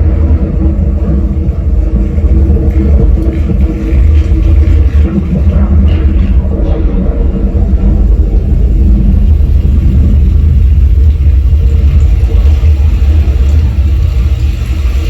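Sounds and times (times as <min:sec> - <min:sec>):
deep bass rumble from subwoofer: 0:00.0 - 0:15.0.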